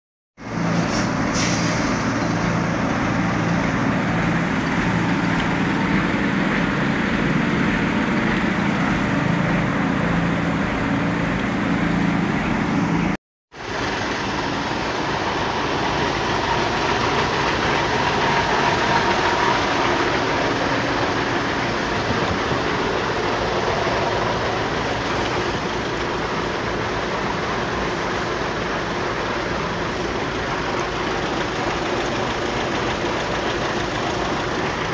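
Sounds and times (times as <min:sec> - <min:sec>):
traffic noise: 0:00.4 - 0:34.9
vehicle engines idling: 0:00.4 - 0:34.9.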